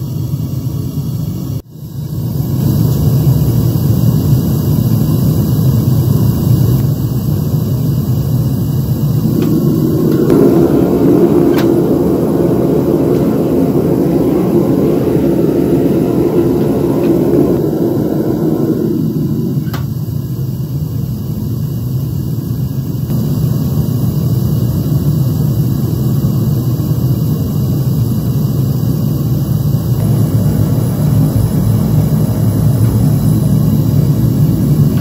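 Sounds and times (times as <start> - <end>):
gas furnace flame roaring: 0.0 - 21.7, 27.7 - 35.0.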